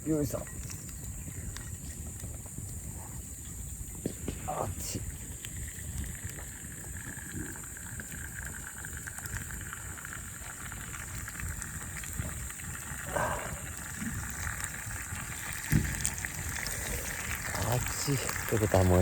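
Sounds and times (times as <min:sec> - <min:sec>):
campfire crackling: 0:00.0 - 0:19.0
meat sizzling on a grill: 0:00.0 - 0:19.0.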